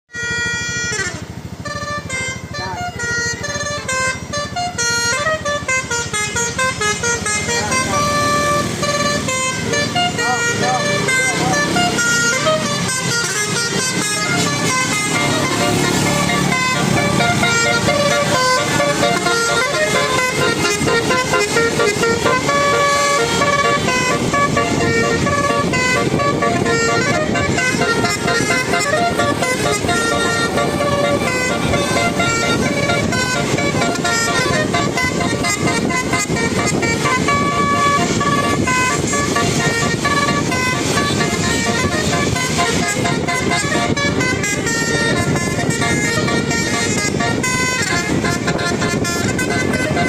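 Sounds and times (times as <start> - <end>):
bus horn playing a tune: 0.1 - 50.0
low rapid pulsing: 3.2 - 50.0.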